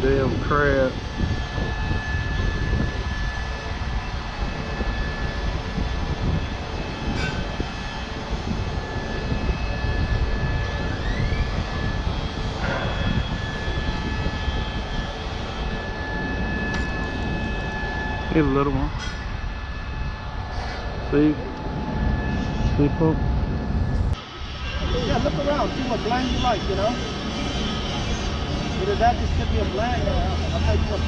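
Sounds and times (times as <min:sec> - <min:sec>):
loud mechanical rumble: 0:00.0 - 0:31.0
thin steady whine: 0:00.0 - 0:31.0.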